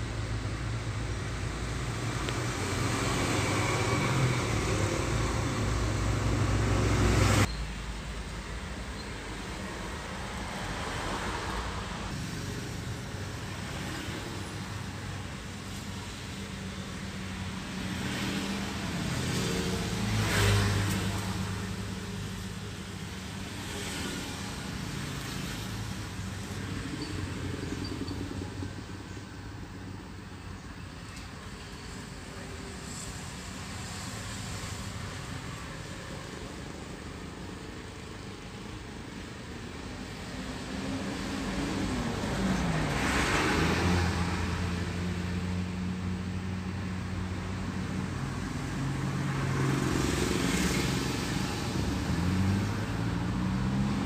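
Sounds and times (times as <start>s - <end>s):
motorcycles passing: 0.0s - 7.5s, 9.3s - 37.9s, 39.9s - 54.0s
cars passing: 0.0s - 54.0s.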